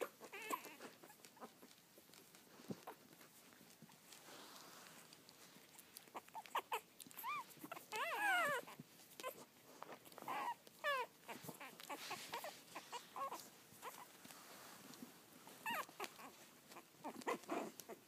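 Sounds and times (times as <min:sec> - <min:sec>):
puppy whimpering: 0:00.0 - 0:18.0.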